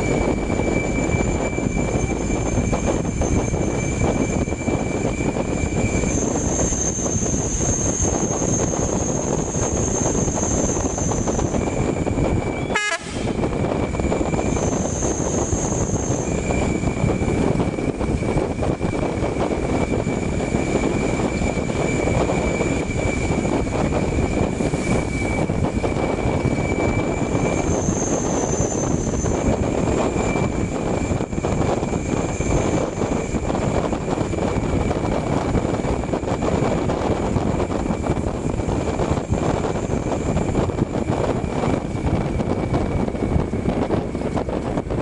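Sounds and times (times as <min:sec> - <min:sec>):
bus engine and road noise: 0:00.0 - 0:45.0.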